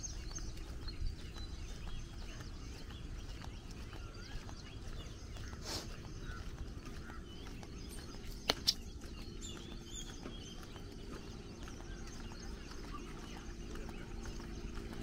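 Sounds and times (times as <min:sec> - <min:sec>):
birds chirping: 0:00.0 - 0:15.0
faint hum: 0:00.0 - 0:15.0.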